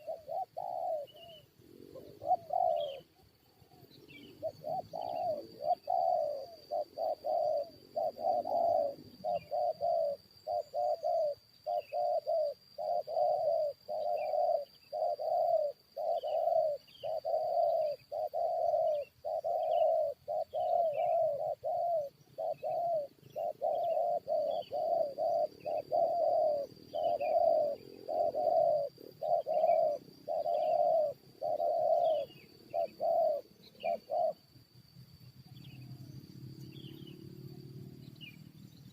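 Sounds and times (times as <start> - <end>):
doves cooing: 0.0 - 34.6
insect whine: 0.0 - 38.9
small birds chirping: 0.0 - 38.9.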